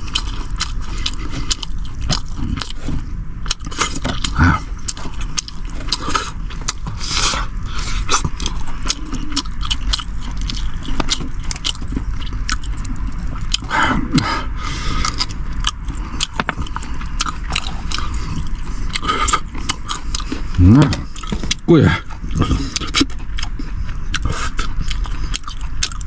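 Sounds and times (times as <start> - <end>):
chewing and gnawing meat: 0.0 - 26.0.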